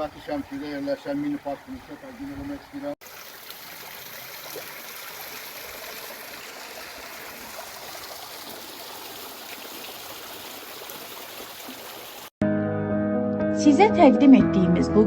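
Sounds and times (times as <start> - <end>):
trickling stream: 0.0 - 12.4.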